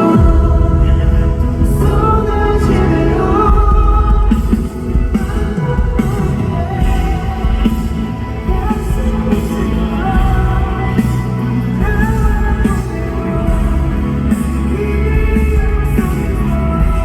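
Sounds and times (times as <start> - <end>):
backing track with booming bass: 0.0 - 17.0
male singer: 0.0 - 17.0.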